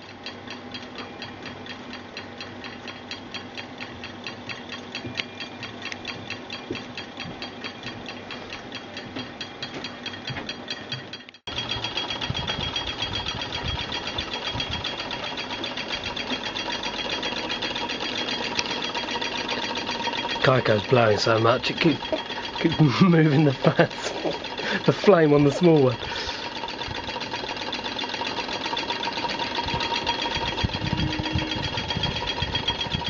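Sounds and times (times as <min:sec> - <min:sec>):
model engines ticking: 0:00.2 - 0:33.0.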